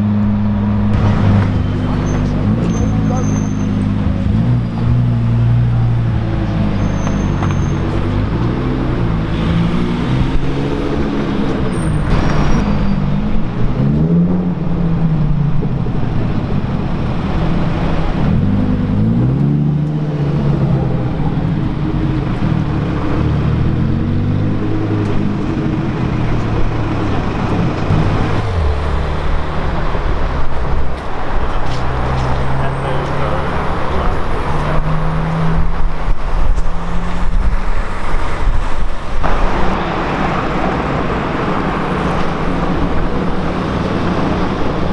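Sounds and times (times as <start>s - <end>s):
street traffic: 0.0s - 44.9s.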